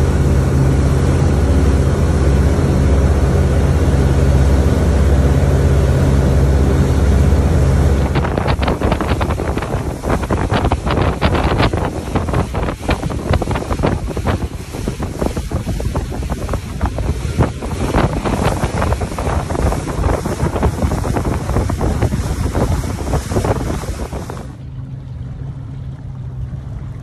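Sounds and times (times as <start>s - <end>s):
wind buffeting microphone: 0.0s - 24.6s
steady low hum: 0.0s - 27.0s
water rushing and splashing: 0.0s - 27.0s.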